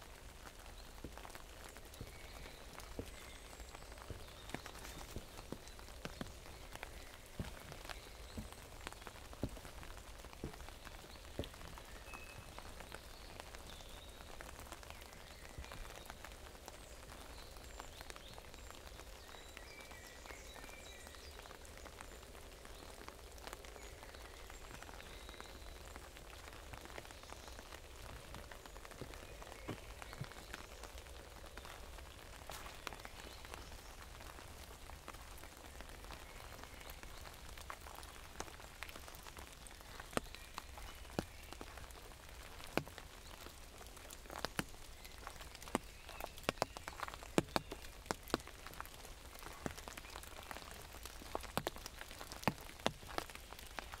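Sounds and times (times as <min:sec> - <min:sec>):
rain hissing: 0:00.0 - 0:18.0, 0:25.8 - 0:54.0
raindrops tapping on umbrella: 0:00.0 - 0:54.0.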